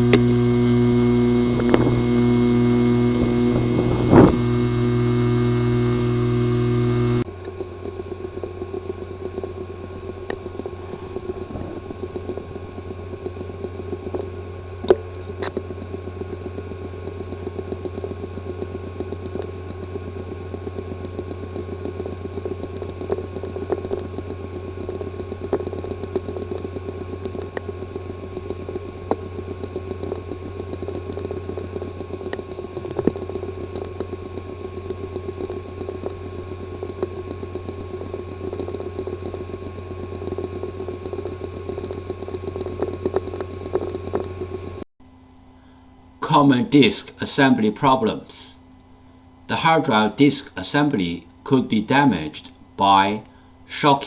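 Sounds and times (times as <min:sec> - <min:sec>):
hard drive click: 0:00.0 - 0:44.8
damaged hard drive buzzing and ticking: 0:00.0 - 0:44.9.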